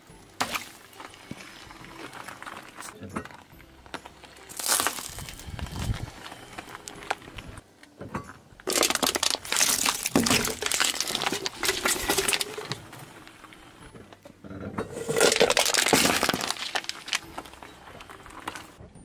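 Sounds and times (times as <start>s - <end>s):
tyre crushing small objects: 0.0s - 7.6s, 8.6s - 14.2s, 14.9s - 18.8s
tyre crushing drink can: 0.4s - 7.4s, 8.6s - 14.2s, 14.8s - 18.8s.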